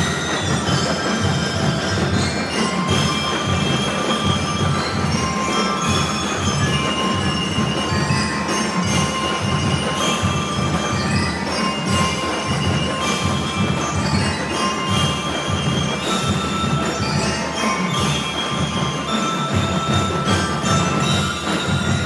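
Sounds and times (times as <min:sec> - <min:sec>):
bell lyres ringing melody: 0:00.0 - 0:22.0
steady drum beat: 0:00.0 - 0:22.0.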